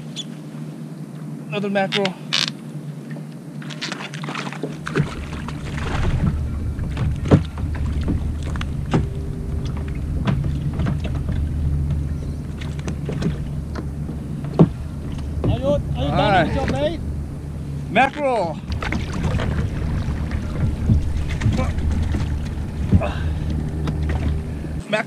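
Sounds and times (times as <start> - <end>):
wind and water rumble: 0.0 - 25.0.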